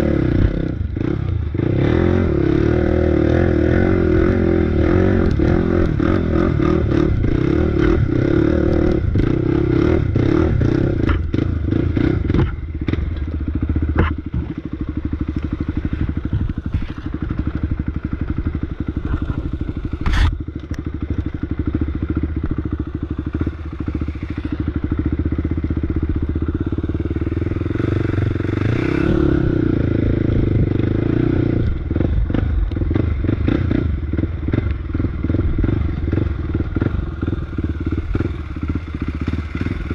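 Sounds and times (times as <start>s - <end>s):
off-road motorbike engine: 0.0s - 39.9s.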